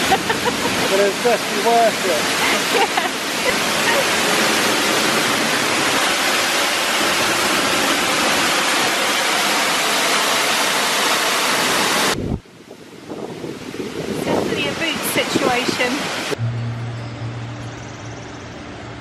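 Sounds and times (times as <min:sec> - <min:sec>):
waterfall rushing: 0:00.0 - 0:12.3, 0:13.6 - 0:19.0.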